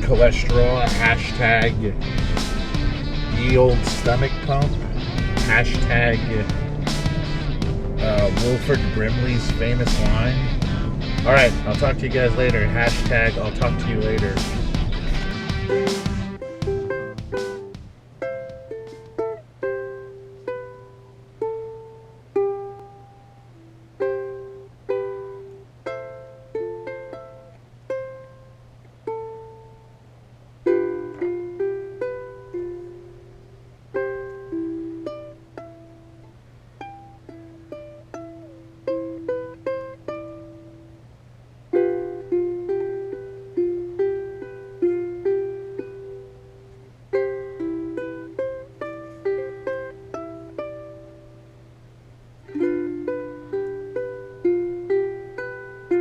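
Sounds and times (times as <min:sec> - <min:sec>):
plucked melody: 0:00.0 - 0:56.0
steady low hum: 0:00.0 - 0:56.0.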